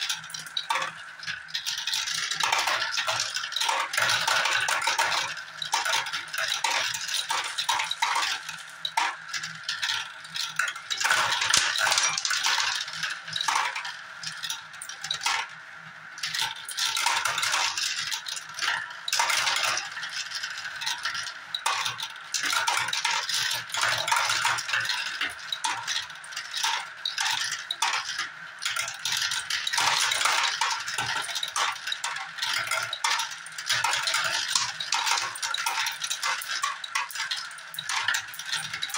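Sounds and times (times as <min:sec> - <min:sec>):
marbles clattering in plastic run: 0:00.0 - 0:38.9.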